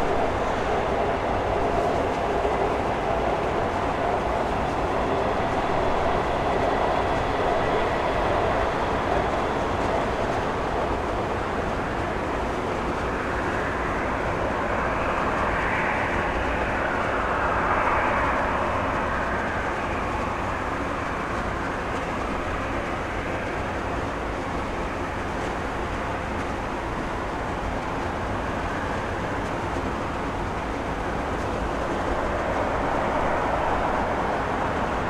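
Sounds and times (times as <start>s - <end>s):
jet engine rush: 0.0s - 35.0s.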